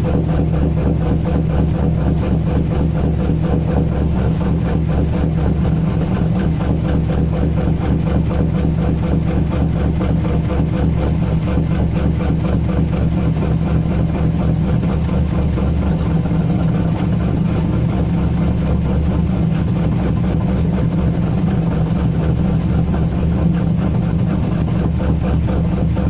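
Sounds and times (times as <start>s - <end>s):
car engine lumpy idle: 0.0s - 26.0s.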